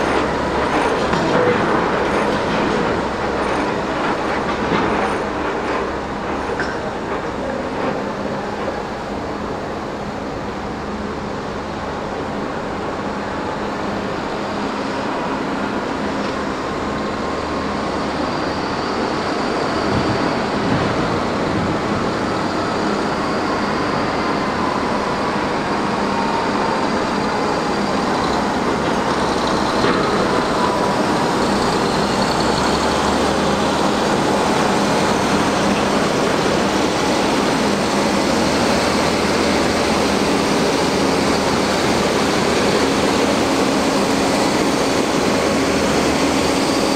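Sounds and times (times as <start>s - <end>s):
dump truck engines running: 0.0s - 46.9s.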